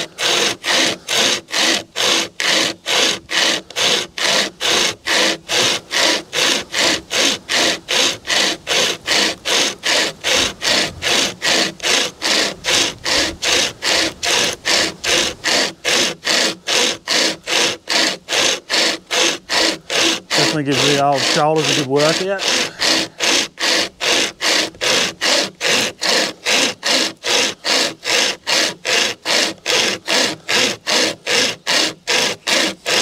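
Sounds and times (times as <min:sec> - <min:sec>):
chain saw rasping through branch: 0:00.0 - 0:33.0.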